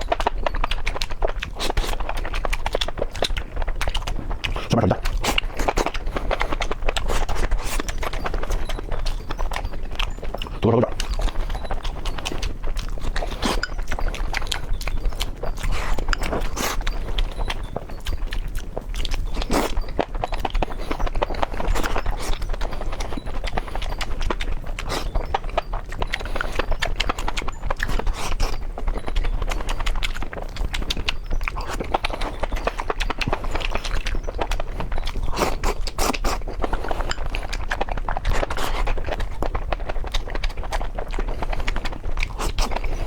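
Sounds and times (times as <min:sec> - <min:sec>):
chewing and crunching food: 0:00.0 - 0:43.0.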